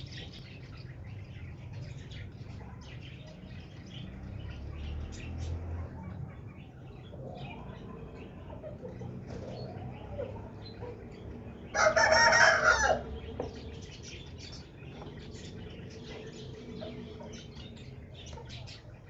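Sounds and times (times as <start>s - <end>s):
parakeets chirping: 0.0s - 19.0s.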